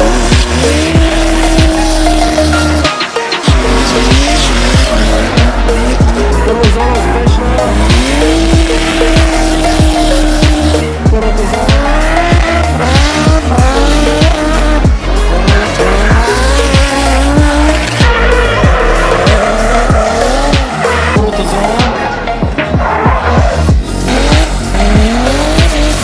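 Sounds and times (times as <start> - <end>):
car engines revving: 0.0 - 26.0
music with a steady beat: 0.0 - 26.0
tyres squealing: 0.0 - 26.0.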